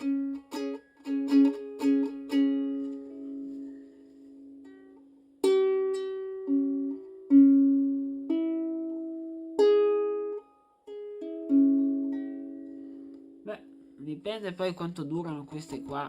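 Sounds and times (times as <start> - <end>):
ukulele plucked notes: 0.0 - 16.0.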